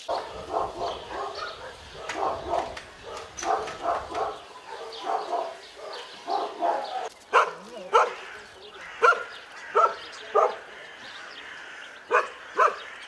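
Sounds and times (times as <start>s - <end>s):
dogs barking: 0.0s - 10.8s, 12.0s - 13.0s.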